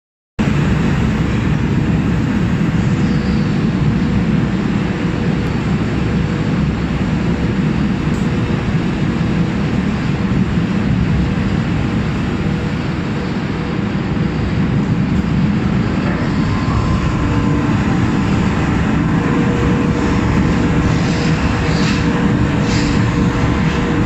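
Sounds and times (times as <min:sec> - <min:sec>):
low machinery rumble: 0:00.4 - 0:24.0.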